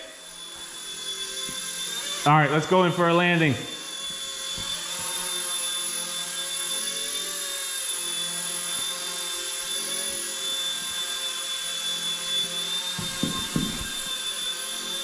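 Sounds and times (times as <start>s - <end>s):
rc helicopter rotor whine: 0.0s - 15.0s.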